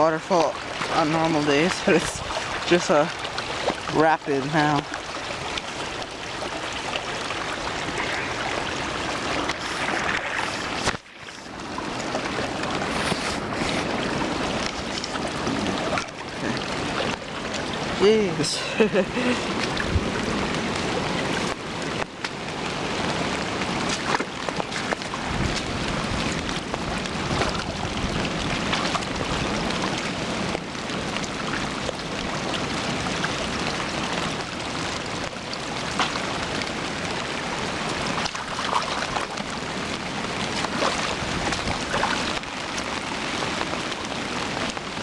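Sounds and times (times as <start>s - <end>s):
river rushing through rapids: 0.0s - 45.0s.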